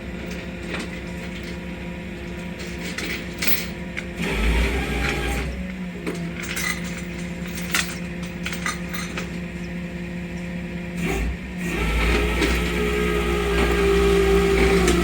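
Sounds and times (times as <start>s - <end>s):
tow truck mechanical hum: 0.0s - 15.0s.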